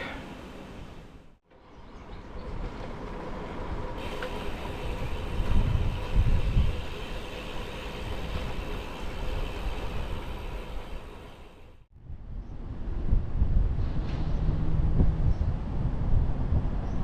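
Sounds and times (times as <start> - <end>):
wind buffeting microphone: 1.7 - 17.0.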